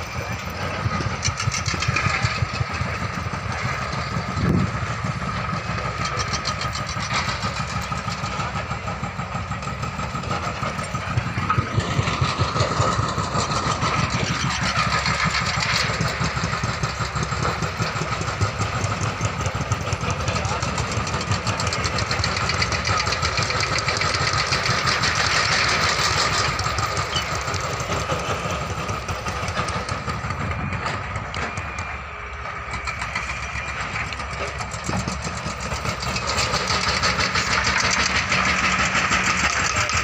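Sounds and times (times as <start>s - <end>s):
excavator diesel engines running: 0.0s - 40.0s.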